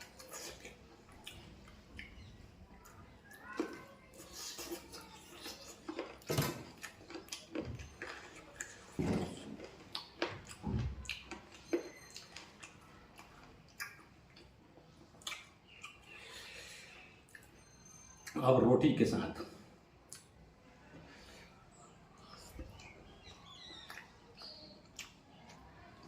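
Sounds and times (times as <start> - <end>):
person chewing with wet smacks: 0.0 - 16.4, 17.2 - 18.4, 20.0 - 20.5, 22.1 - 26.0.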